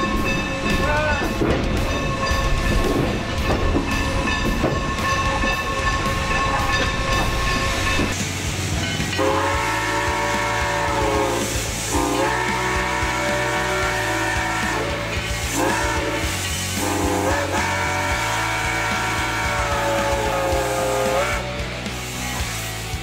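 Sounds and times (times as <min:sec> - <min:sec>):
steam locomotive whistle blasts: 0:00.0 - 0:08.2, 0:08.8 - 0:22.8.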